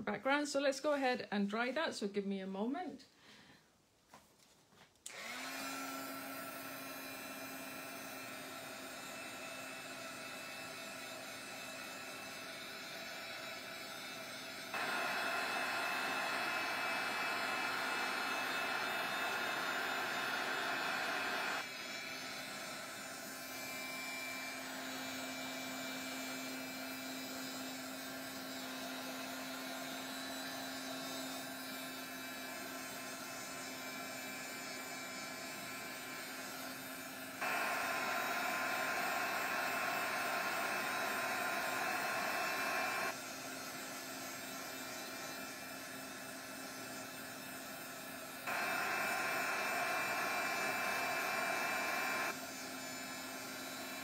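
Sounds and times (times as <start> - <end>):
heat gun blowing: 5.0 - 54.0.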